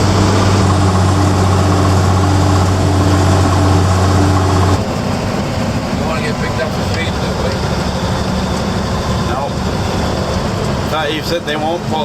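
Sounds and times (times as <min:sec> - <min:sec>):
diesel truck engine drone: 0:00.0 - 0:12.0
road noise inside cab: 0:00.0 - 0:12.0.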